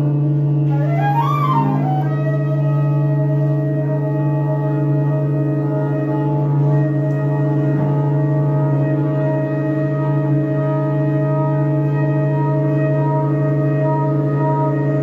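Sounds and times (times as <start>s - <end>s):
bowed cello: 0.0s - 15.0s
conch shell: 0.0s - 15.0s
didgeridoo drone: 0.0s - 15.0s
flute: 0.0s - 15.0s.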